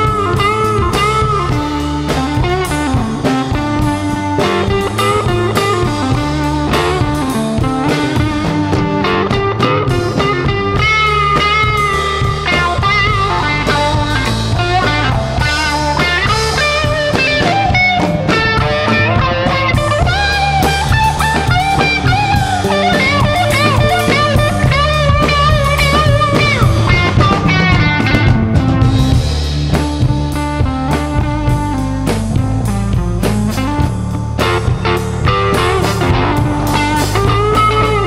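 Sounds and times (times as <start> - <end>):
bass guitar: 0.0 - 38.0
drum kit: 0.0 - 38.0
lead electric guitar: 0.0 - 38.0.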